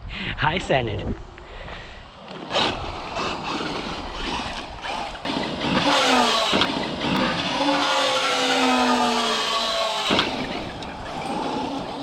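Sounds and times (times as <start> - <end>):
tyres on dirt: 1.2 - 12.0
electric motor whine: 2.4 - 12.0.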